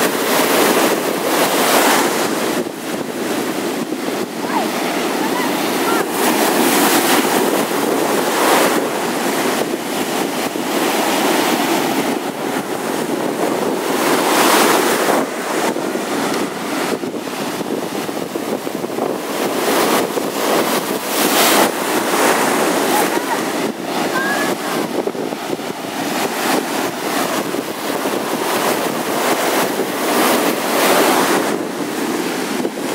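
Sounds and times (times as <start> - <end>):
surf breaking on sandy shore: 0.0 - 32.9.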